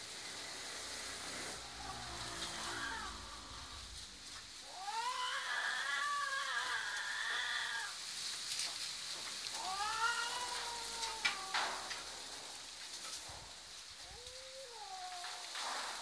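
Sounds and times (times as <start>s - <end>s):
cats yowling: 1.3s - 8.3s, 9.5s - 16.0s.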